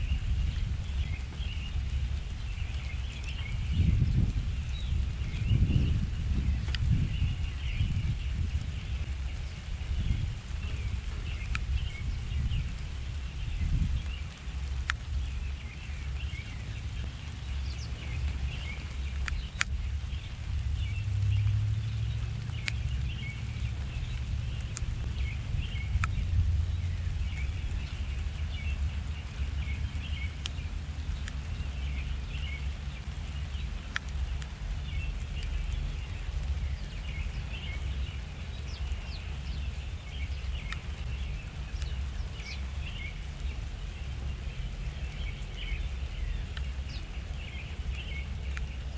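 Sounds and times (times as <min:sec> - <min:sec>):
small birds chirping: 0:00.0 - 0:48.9
steady low rumble: 0:00.0 - 0:48.9.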